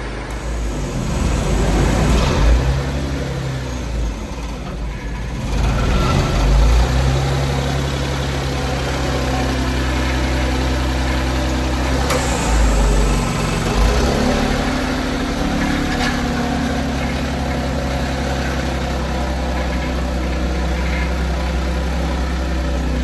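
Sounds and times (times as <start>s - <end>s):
small truck engine idling: 0.0s - 23.0s.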